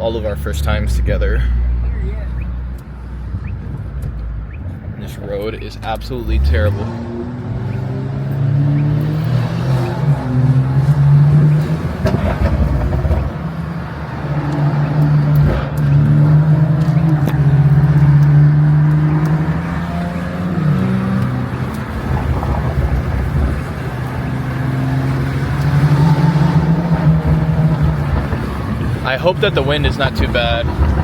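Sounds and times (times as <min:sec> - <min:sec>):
car engine drone: 0:00.0 - 0:31.0
road noise: 0:00.0 - 0:31.0.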